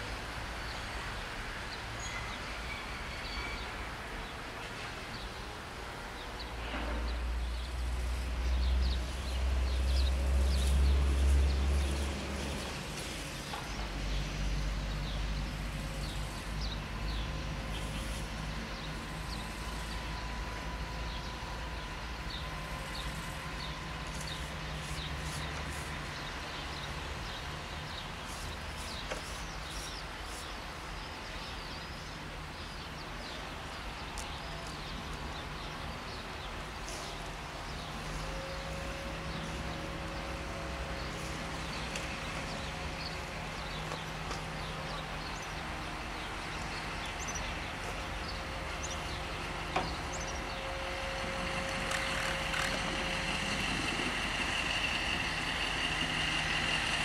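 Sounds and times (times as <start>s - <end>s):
locomotive engine humming: 7.8s - 30.9s, 33.5s - 57.0s
birds chirping: 8.4s - 57.0s.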